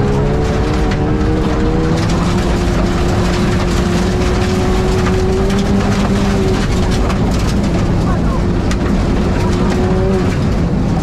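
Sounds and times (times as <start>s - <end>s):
race car engine at high revs: 0.0s - 11.0s
road and wind noise: 0.0s - 11.0s.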